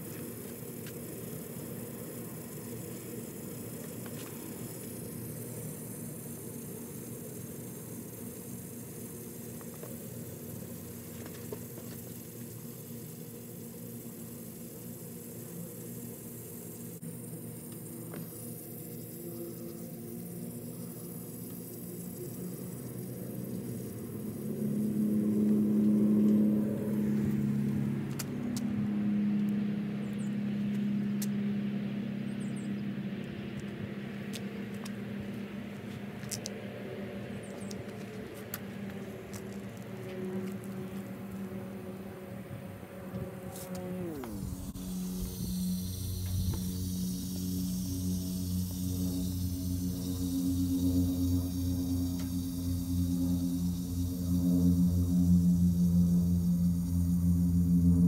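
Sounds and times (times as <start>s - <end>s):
low mechanical hum and rumble: 0.0s - 58.0s.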